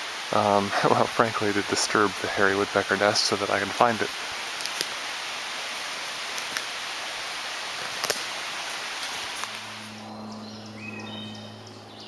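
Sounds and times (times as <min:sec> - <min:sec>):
woodland ambience hiss: 0:00.0 - 0:12.0.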